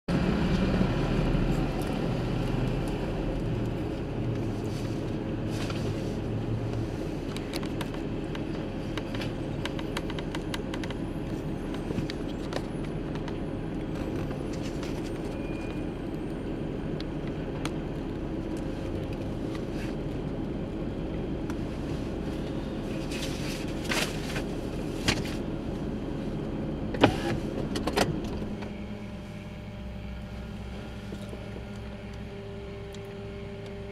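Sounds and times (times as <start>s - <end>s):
garbage truck engine and hydraulics: 0.1s - 33.9s.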